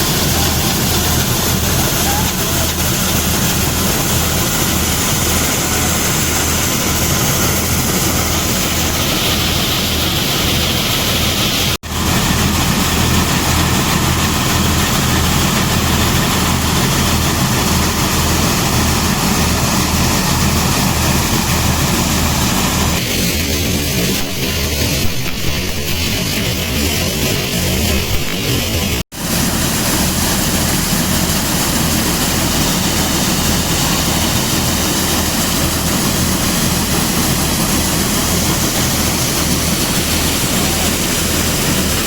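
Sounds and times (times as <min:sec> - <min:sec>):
thresher machine running: 0:00.0 - 0:42.0.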